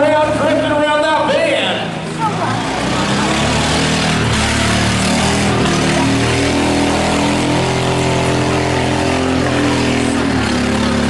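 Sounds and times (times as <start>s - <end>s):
truck engine revving: 0.0s - 11.0s
tires spinning in mud: 1.7s - 11.0s.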